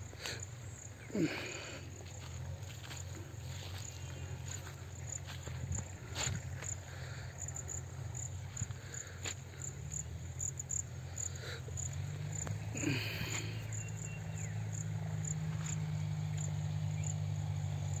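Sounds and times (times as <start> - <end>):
cricket chirping: 0.0 - 18.0
low steady rumble: 0.0 - 18.0.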